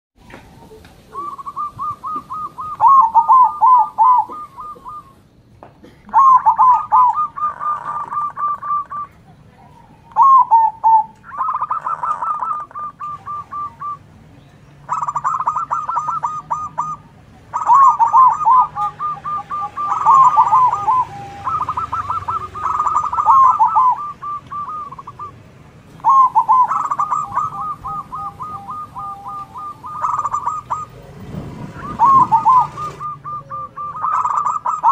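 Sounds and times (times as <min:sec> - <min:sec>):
doves cooing: 0:00.2 - 0:34.9.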